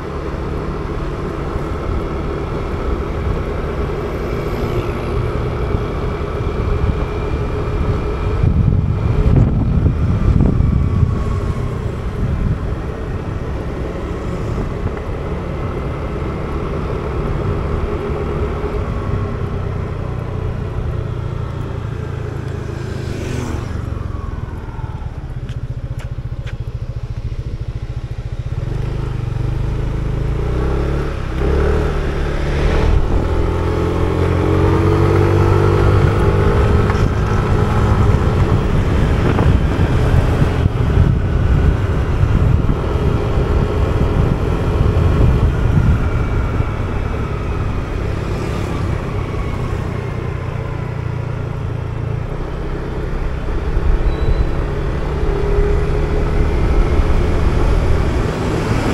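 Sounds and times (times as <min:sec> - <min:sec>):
wind rumble on microphone: 0:00.0 - 0:22.7, 0:23.3 - 0:58.9
scooter engine whine: 0:00.0 - 0:58.9.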